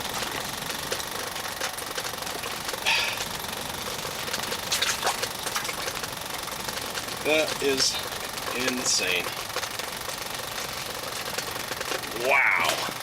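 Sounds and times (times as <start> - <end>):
machine running with knocking rattle: 0.0 - 13.0.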